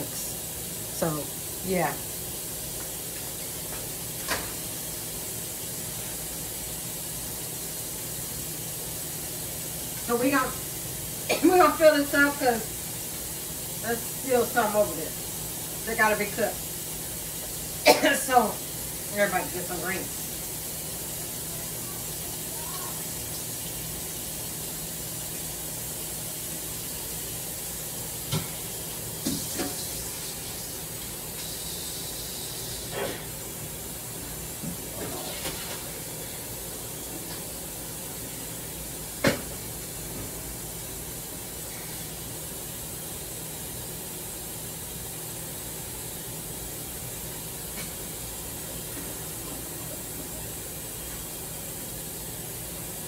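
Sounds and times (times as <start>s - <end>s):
steady hiss: 0.0s - 53.0s.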